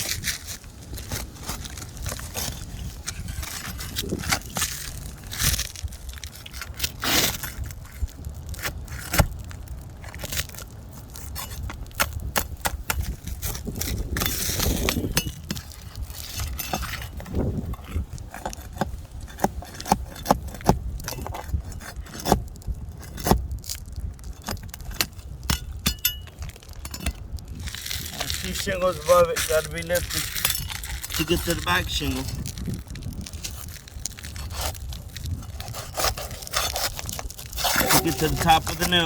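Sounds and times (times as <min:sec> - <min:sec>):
shingles crackling and scraping: 0:00.0 - 0:39.0.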